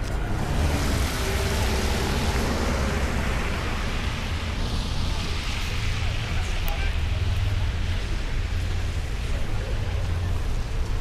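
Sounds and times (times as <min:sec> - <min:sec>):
tyres hissing on wet road: 0:00.1 - 0:11.0.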